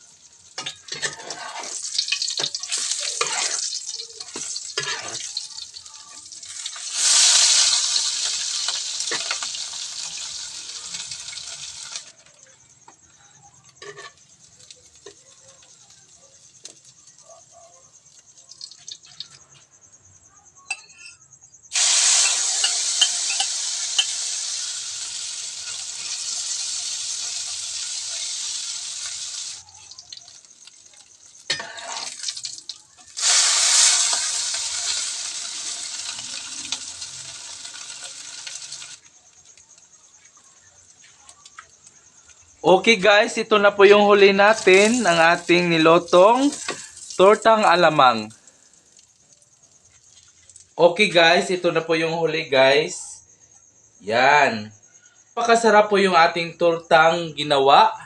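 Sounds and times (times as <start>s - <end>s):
fritters sizzling in hot oil: 0.0s - 12.6s, 13.6s - 19.5s, 21.7s - 43.1s, 44.1s - 50.8s.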